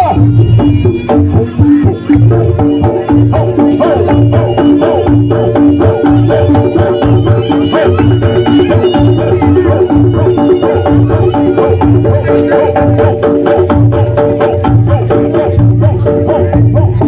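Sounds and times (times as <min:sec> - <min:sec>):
drums beating fast rhythm: 0:00.0 - 0:17.0.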